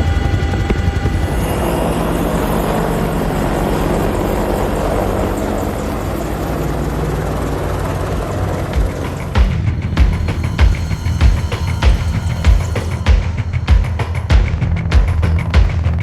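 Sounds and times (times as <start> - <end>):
helicopter rotor and engines: 0.0 - 16.0.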